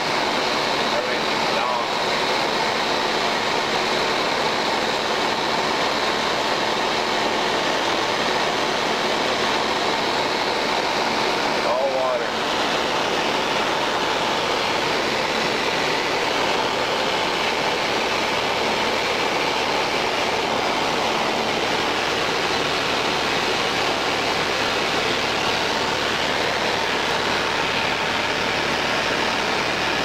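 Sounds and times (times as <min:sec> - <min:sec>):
propeller plane engine drone in cabin: 0:00.0 - 0:30.0.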